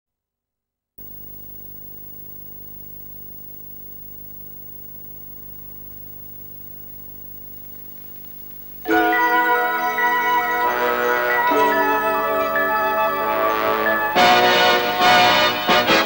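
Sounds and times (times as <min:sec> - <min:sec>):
electrical hum: 0:01.0 - 0:16.0
tape hiss: 0:01.0 - 0:16.0.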